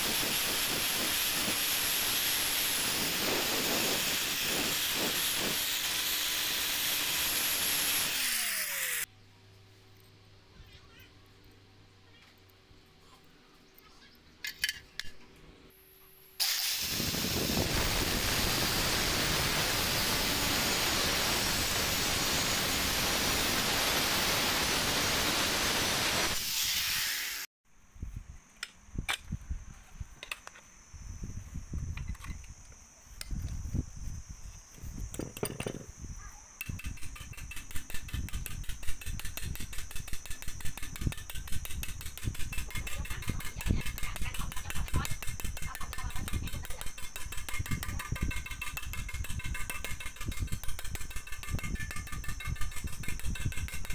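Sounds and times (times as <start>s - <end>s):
loud steady hiss: 0.0s - 9.1s, 15.8s - 53.9s.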